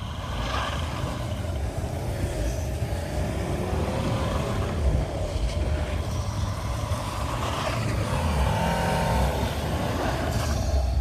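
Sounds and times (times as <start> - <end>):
diesel engine revving under load: 0.0 - 11.0.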